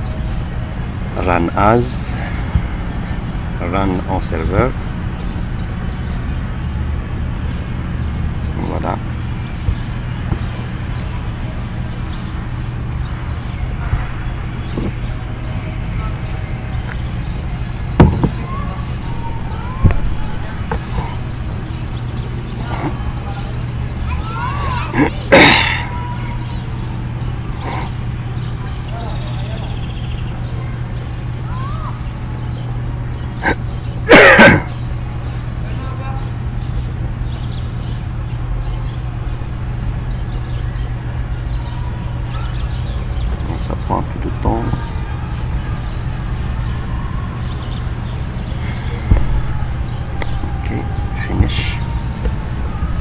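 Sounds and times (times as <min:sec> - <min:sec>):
low background hum: 0:00.0 - 0:53.0.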